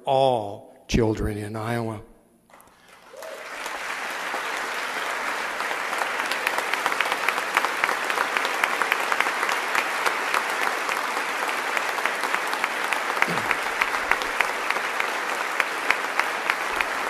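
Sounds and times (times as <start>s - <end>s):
audience applauding: 2.5s - 17.0s.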